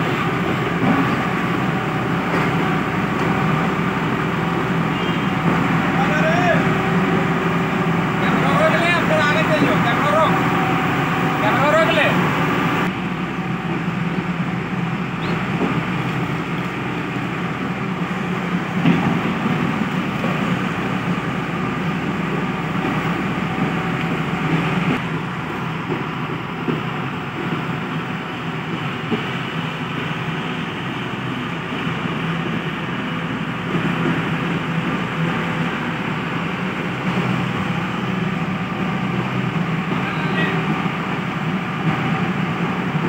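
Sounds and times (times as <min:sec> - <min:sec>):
excavator diesel engine running: 0:00.0 - 0:43.0
tracks moving machine noise: 0:00.0 - 0:43.0.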